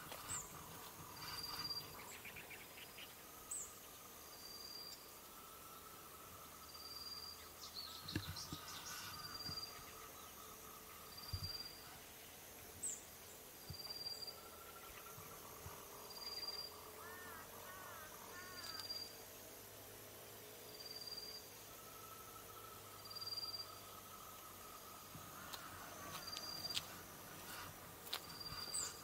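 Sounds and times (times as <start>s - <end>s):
high insect-like chirp: 0.0s - 29.0s
thin steady drone: 0.0s - 29.0s.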